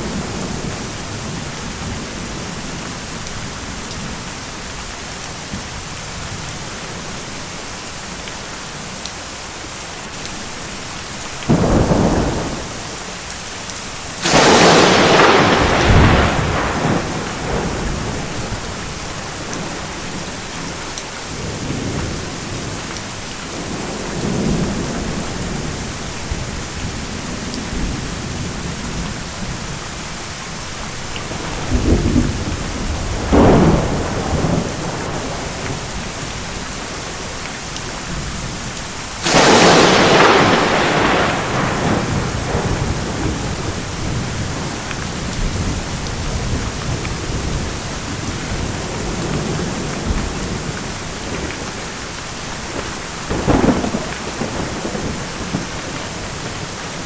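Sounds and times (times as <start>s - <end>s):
thunder claps and rumbles: 0.0s - 4.4s, 11.4s - 13.0s, 14.1s - 29.8s, 30.9s - 57.0s
heavy rain: 0.0s - 57.0s.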